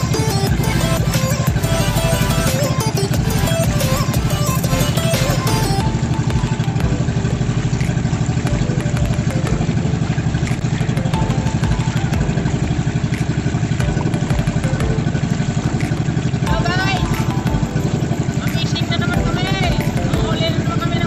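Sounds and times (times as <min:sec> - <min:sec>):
boat engine puttering: 0:00.0 - 0:21.0.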